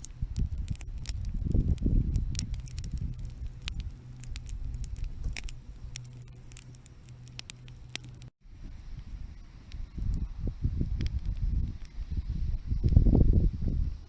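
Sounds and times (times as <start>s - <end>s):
campfire crackling and popping: 0.0s - 8.3s, 9.0s - 13.9s
low rumble: 0.0s - 14.0s.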